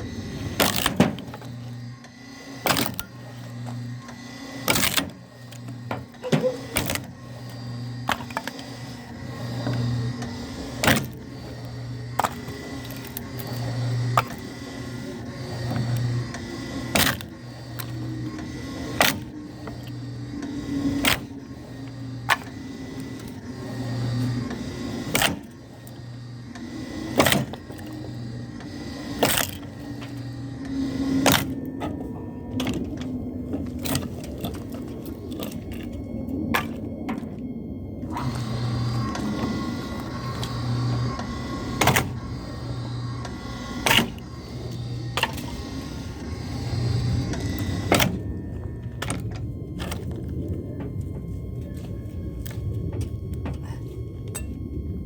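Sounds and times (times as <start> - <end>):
log splitter motor humming: 0.0 - 55.0.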